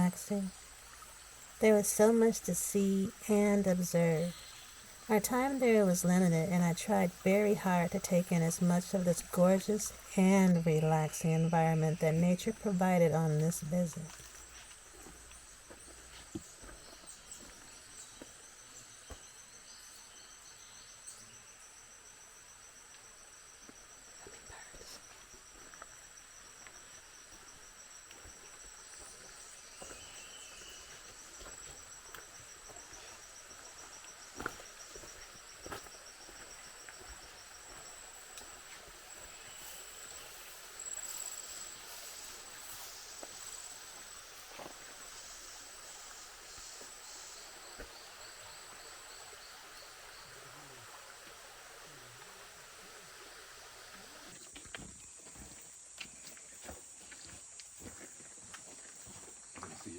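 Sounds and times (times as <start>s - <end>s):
insect pulsing trill: 0.0s - 55.8s
high-pitched insect calls: 0.0s - 59.9s.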